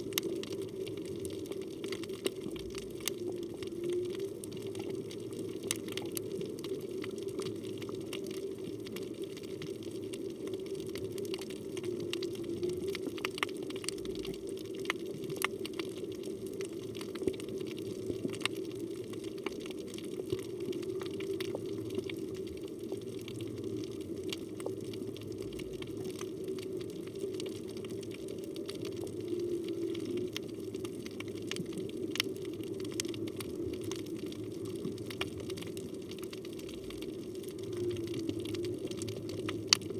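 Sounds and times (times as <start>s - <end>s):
sharp underwater clicks and crackles: 0.0s - 39.9s
underwater rush of water: 0.0s - 39.9s.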